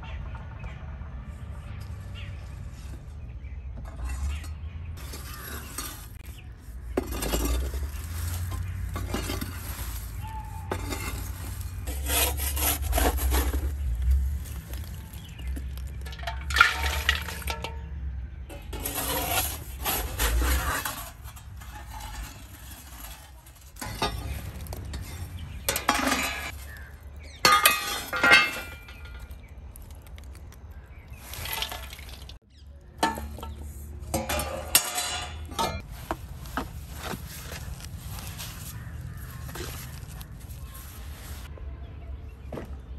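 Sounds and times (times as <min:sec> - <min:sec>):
charcoal clinking and scraping: 0:03.8 - 0:41.5.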